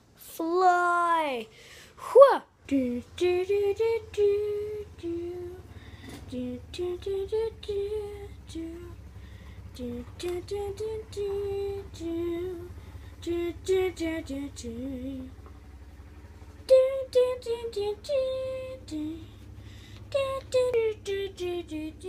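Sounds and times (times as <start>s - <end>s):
steady low hum: 0.0s - 22.0s
child singing wordless tune: 0.2s - 9.1s, 9.7s - 15.4s, 16.6s - 19.4s, 20.0s - 22.0s.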